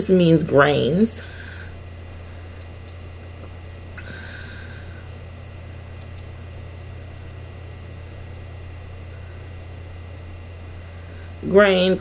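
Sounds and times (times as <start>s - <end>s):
low room hum with hiss: 0.0s - 12.0s.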